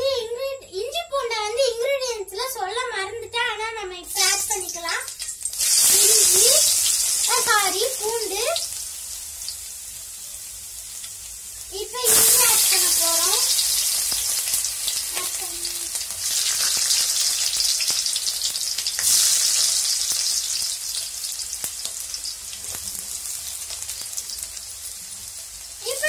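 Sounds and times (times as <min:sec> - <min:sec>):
onions frying in hot oil: 0:04.0 - 0:26.0.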